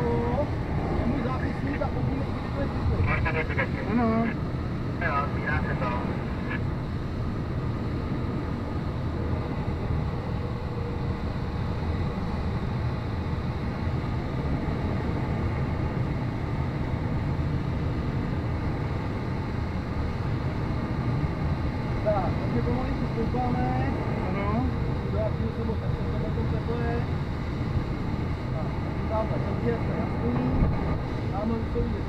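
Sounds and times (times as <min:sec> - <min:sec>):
air rushing around cockpit: 0:00.0 - 0:32.0.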